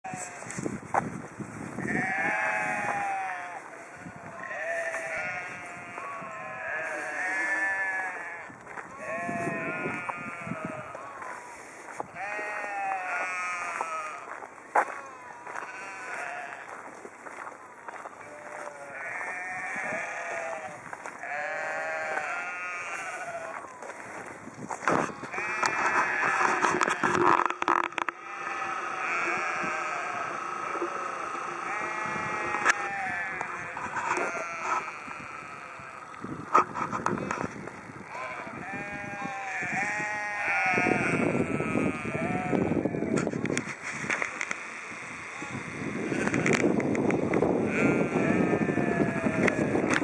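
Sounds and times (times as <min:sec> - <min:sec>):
sheep bleating: 0:01.8 - 0:11.4, 0:12.1 - 0:24.0, 0:24.8 - 0:43.4, 0:47.6 - 0:50.0.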